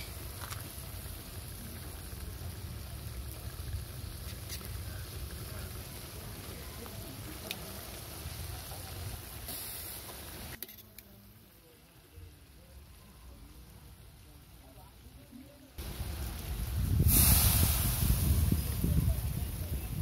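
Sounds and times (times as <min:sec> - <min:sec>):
fish frying in oil: 0:00.0 - 0:20.0.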